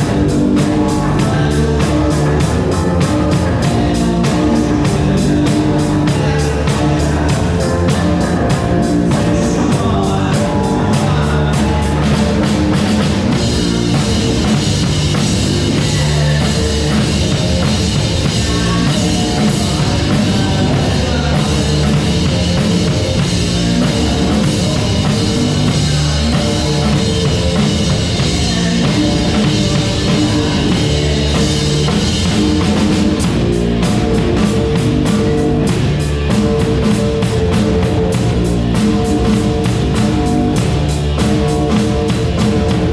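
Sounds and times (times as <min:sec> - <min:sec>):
loud rock music: 0:00.0 - 0:42.9.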